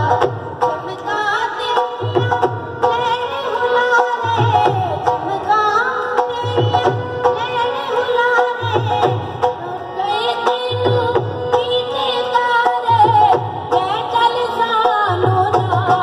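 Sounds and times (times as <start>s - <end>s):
drum beating: 0.0s - 16.0s.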